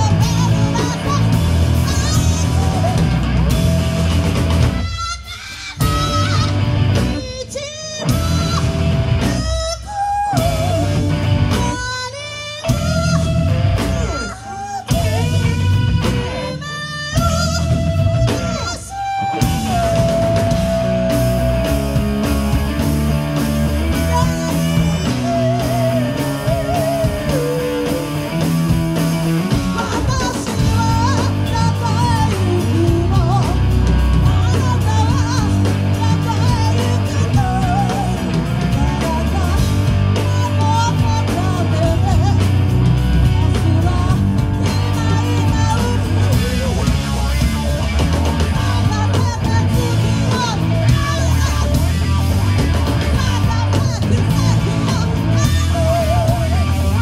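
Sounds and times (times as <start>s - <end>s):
bass guitar: 0.0s - 57.0s
drum kit: 0.0s - 57.0s
electric guitar: 0.0s - 57.0s
person singing: 0.0s - 57.0s.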